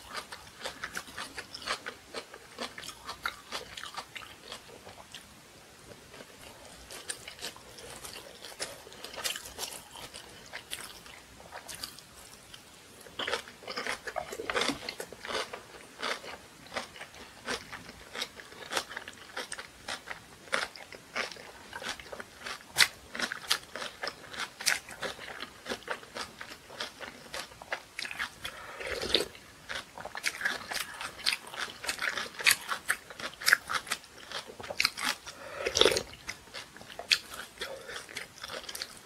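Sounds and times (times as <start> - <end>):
person chewing crunchy food: 0.0 - 39.0.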